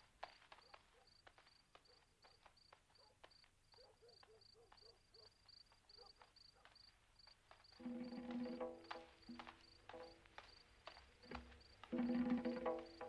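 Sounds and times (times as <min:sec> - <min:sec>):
crickets chirping: 0:00.2 - 0:13.0.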